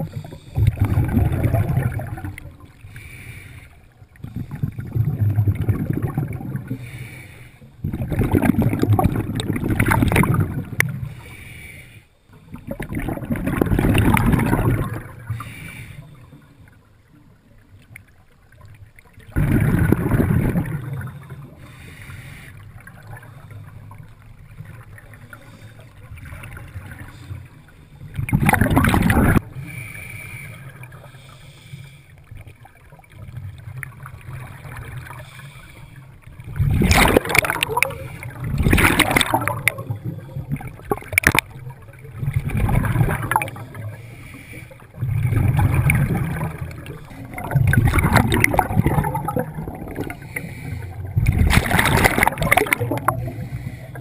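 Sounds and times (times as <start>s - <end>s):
bubbles rushing and gurgling: 0.0s - 3.1s, 4.0s - 7.1s, 7.8s - 11.4s, 12.4s - 15.6s, 16.4s - 22.0s, 22.6s - 29.8s, 32.2s - 54.0s
low rumble of water: 0.0s - 54.0s.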